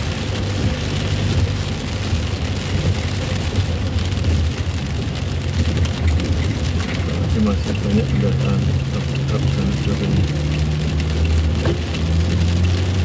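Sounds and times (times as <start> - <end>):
rain on vehicle roof: 0.0 - 13.0
tyres on wet road: 0.0 - 13.0
vehicle engine drone: 0.0 - 13.0.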